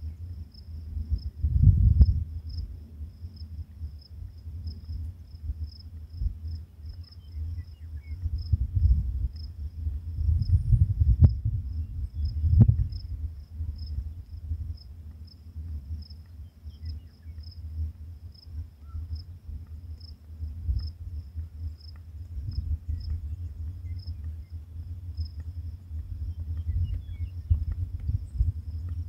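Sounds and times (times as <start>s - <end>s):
crickets chirping: 0.0s - 29.0s
low fluctuating rumble: 0.0s - 29.0s.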